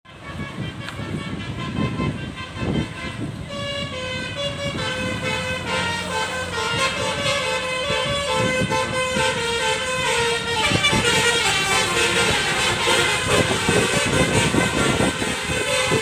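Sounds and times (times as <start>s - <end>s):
bus horn playing melody: 0.1s - 16.0s
bus road noise: 0.1s - 16.0s.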